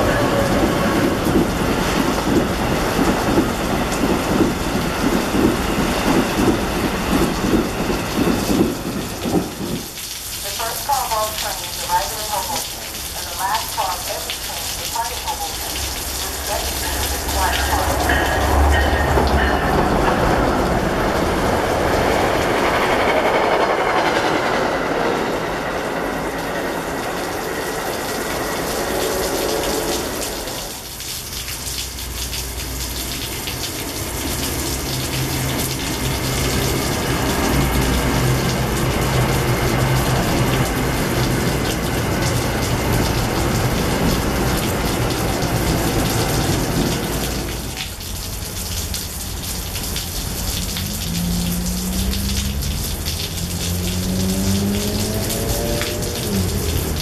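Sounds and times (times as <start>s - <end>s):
rain on wet pavement: 0.0s - 23.2s, 24.4s - 57.0s
train rumbling past: 0.0s - 48.5s, 49.2s - 57.0s.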